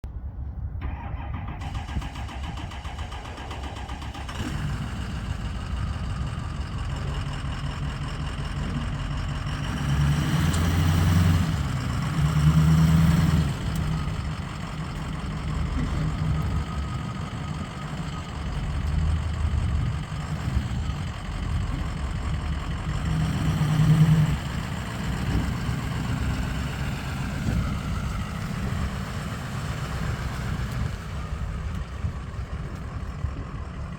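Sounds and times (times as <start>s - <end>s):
engine revving: 0.8s - 33.4s
pickup engine idling: 0.8s - 33.9s.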